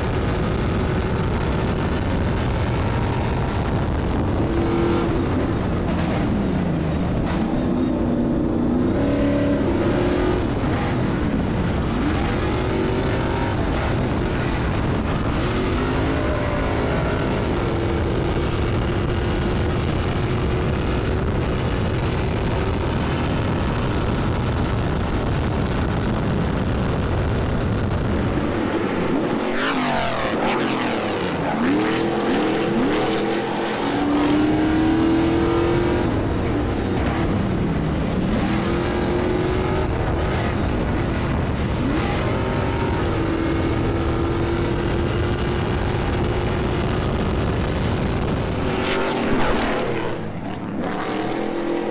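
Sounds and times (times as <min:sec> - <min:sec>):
race truck engines drone: 0:00.0 - 0:51.9.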